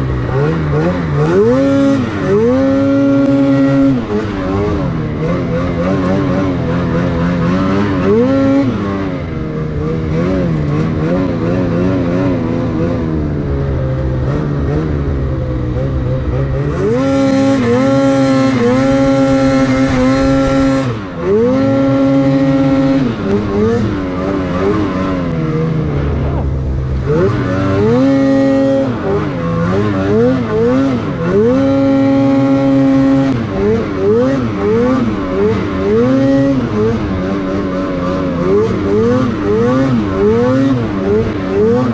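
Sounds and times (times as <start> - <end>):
snowmobile engine revving: 0.0 - 41.9.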